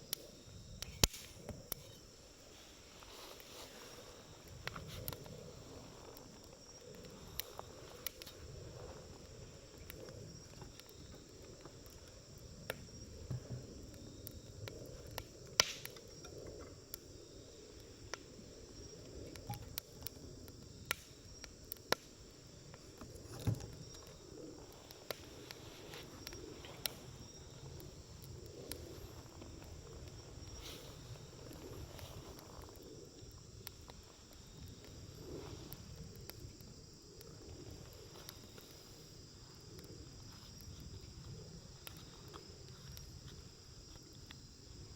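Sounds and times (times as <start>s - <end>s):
campfire crackling and popping: 0.0s - 44.9s
low rumble of flames: 0.0s - 44.9s.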